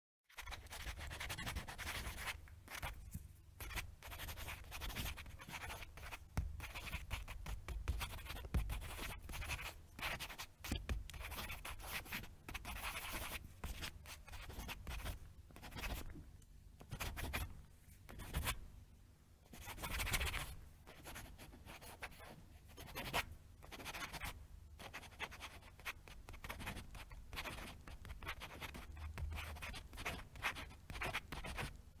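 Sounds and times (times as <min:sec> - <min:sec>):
pen scribbling on paper: 0:00.3 - 0:02.9, 0:03.6 - 0:16.1, 0:19.6 - 0:31.7.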